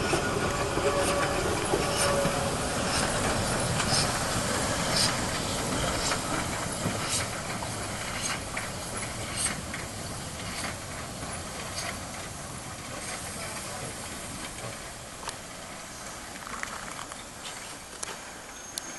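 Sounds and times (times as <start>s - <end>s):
steam locomotive hissing steam: 0.0s - 18.9s.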